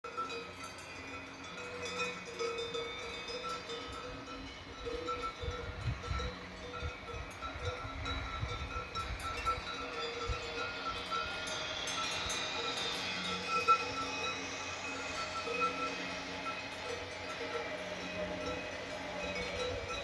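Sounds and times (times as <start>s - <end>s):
cowbells clanking: 0.1s - 20.0s.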